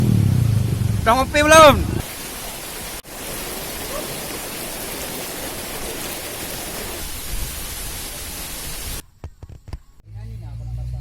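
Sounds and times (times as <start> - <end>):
rushing water: 0.2 - 9.0.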